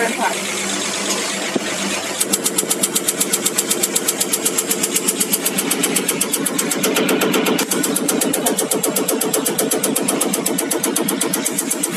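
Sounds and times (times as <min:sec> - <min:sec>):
test bench pumps running: 0:00.0 - 0:11.9
rapid injector ticks: 0:01.5 - 0:11.9.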